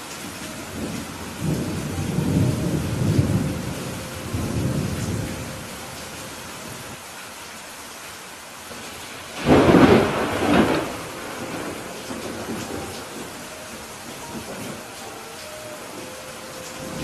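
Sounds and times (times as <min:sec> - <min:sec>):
steady rain hissing: 0:00.0 - 0:17.0
rolling thunder rumble: 0:00.3 - 0:07.0, 0:09.4 - 0:17.0.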